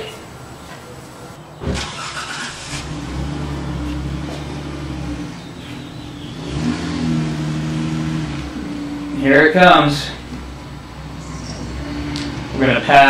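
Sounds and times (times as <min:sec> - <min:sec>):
car engine starting and idling: 0:01.6 - 0:13.0.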